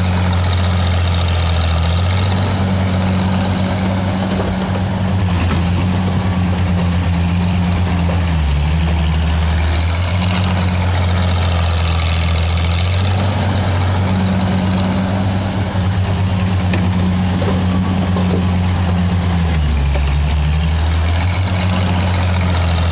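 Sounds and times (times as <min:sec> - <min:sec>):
excavator engine running: 0:00.0 - 0:22.9.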